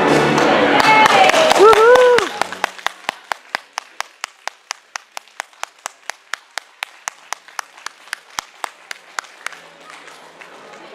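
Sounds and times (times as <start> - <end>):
hands clapping close by: 0.4 - 10.9
fainter clapping: 1.3 - 10.2.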